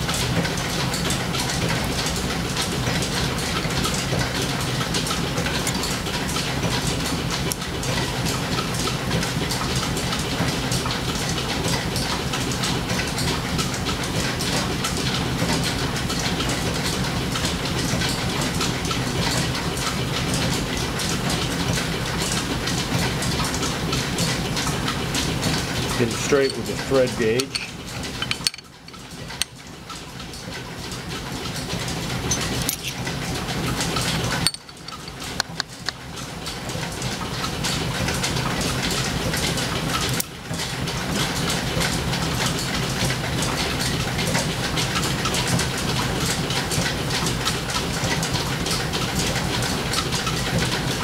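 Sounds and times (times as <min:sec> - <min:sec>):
line shaft and belts clattering: 0:00.0 - 0:51.0.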